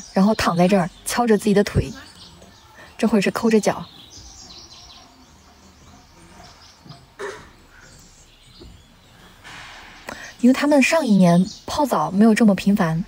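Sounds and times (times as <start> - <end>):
small birds chirping in distance: 0.0 - 13.0.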